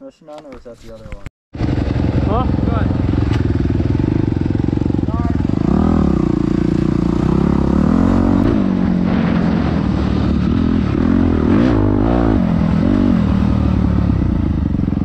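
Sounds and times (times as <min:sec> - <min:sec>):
dirt bike engine revving: 0:01.6 - 0:15.0.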